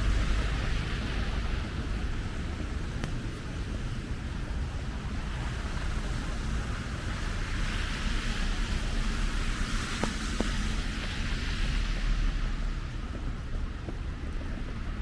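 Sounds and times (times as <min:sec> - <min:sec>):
traffic rumble: 0:00.0 - 0:15.0
tyres hissing on wet road: 0:00.0 - 0:15.0
wind rumble: 0:00.0 - 0:15.0.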